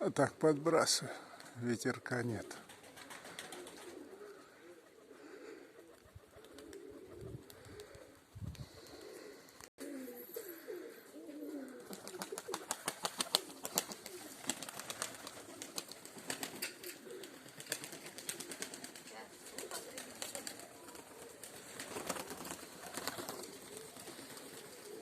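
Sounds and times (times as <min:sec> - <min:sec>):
pigeons cooing: 0:02.4 - 0:25.0.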